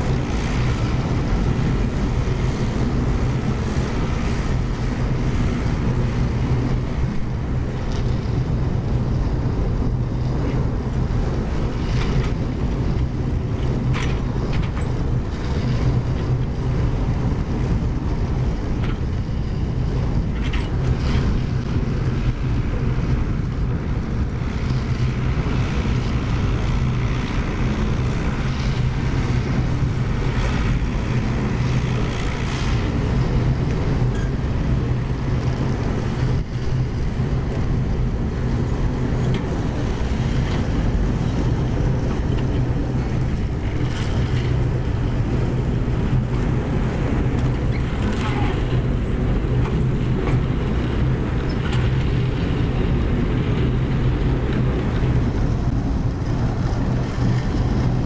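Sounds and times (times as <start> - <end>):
heavy machinery droning: 0.0 - 58.0.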